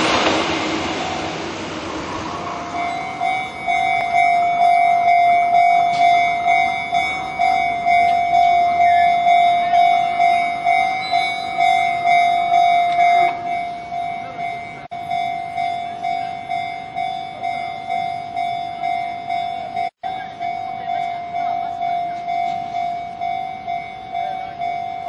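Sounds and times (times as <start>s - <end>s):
level crossing warning bell: 2.4s - 25.0s.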